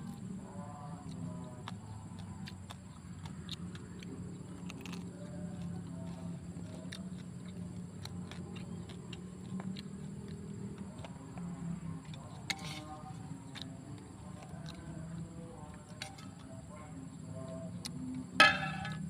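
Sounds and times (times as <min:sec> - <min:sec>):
chewing and crunching: 0:00.0 - 0:19.0.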